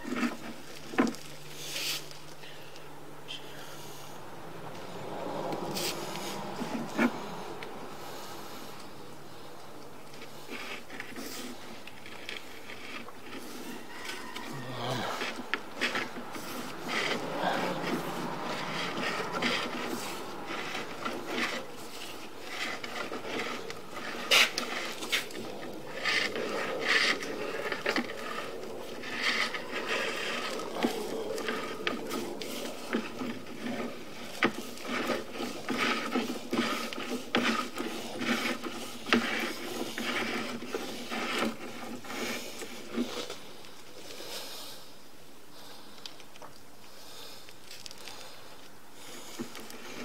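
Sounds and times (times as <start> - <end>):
cable scraping and rubbing in pipe: 0.0 - 50.0.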